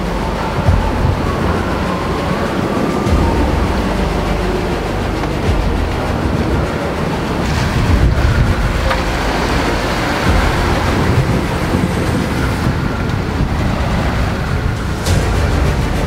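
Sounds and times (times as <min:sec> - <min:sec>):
waves splashing along hull: 0:00.0 - 0:16.0
wind buffeting microphone: 0:00.0 - 0:16.0.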